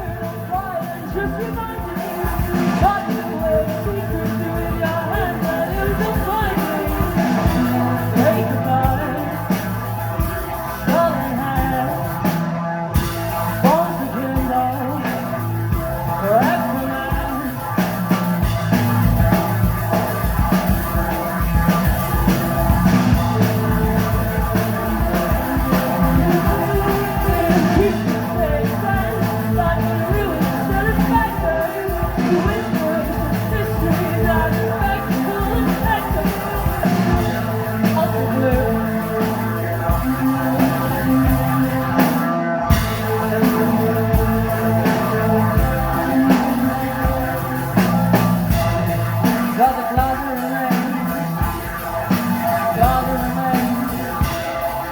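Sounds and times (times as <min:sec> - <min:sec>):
person singing: 0:00.0 - 0:54.9
rock band playing live: 0:00.0 - 0:54.9.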